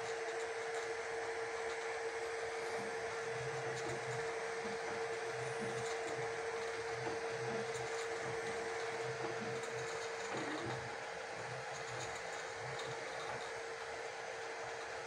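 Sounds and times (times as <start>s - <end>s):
print head whirring: 0.0s - 15.0s
printer hum: 0.0s - 15.0s.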